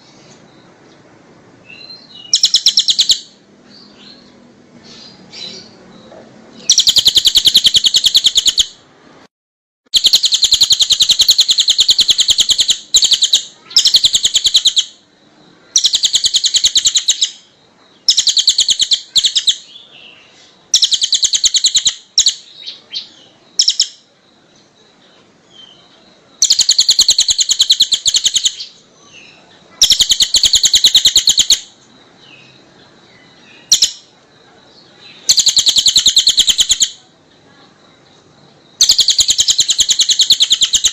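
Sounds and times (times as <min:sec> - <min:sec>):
songbird singing rapid high trills: 0:00.1 - 0:08.9, 0:09.9 - 0:40.9.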